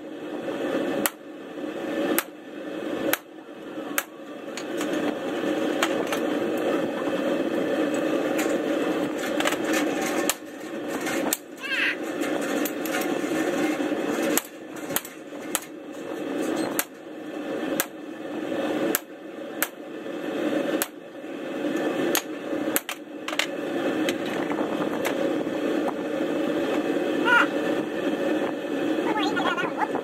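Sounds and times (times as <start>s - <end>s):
forge rushing noise: 0.0s - 30.0s.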